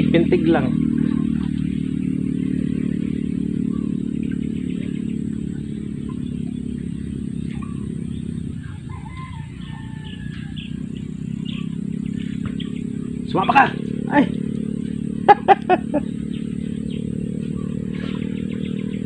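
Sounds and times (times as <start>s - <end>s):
engine droning: 0.0s - 19.0s
faint bird chirps: 1.1s - 19.0s.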